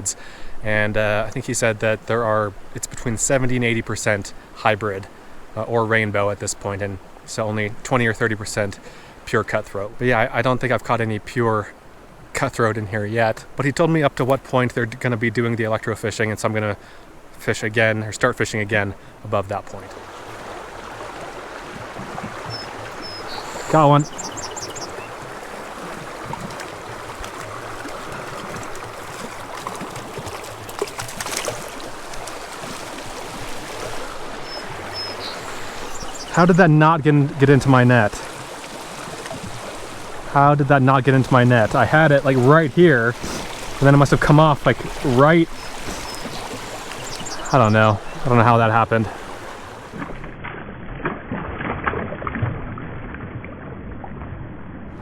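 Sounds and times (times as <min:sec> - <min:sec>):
creek flowing: 0:00.0 - 0:50.4
running water: 0:00.0 - 0:50.4.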